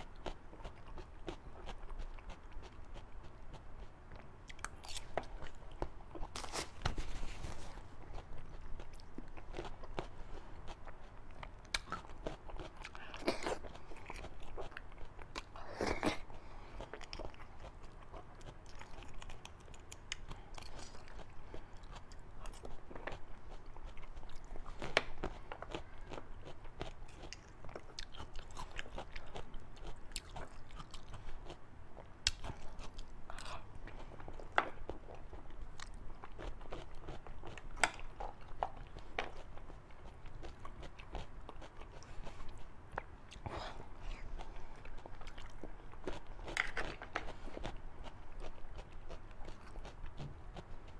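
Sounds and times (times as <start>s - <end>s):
person chewing and biting: 7.8s - 50.9s.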